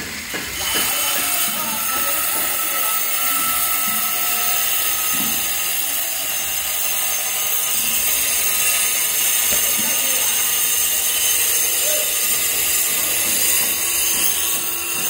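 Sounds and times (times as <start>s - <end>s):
angle grinder cutting: 0.0s - 15.0s.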